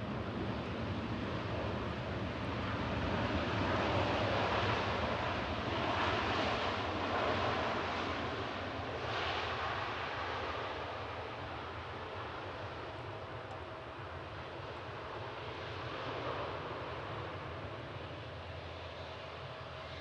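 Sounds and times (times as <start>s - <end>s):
jet airliner passing: 0.0s - 20.0s.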